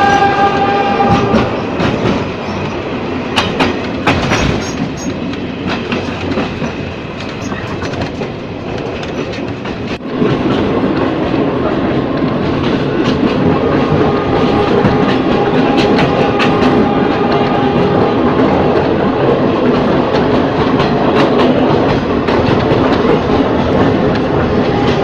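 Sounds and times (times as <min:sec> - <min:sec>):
train wheels clicking over rail joints: 0:00.1 - 0:25.0.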